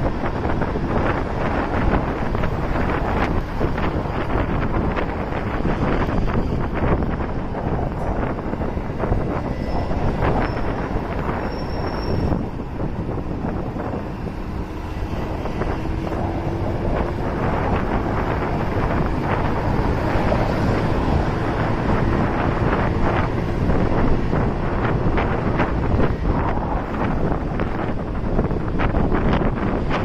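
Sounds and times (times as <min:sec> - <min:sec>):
motorcycle engine rumble: 0:00.0 - 0:30.0
road noise: 0:00.0 - 0:30.0
wind buffeting microphone: 0:00.0 - 0:30.0.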